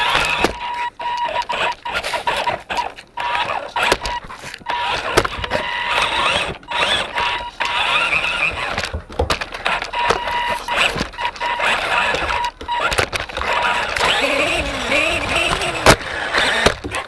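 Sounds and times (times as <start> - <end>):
toy truck motor whirring: 0.0 - 8.9, 9.5 - 17.0.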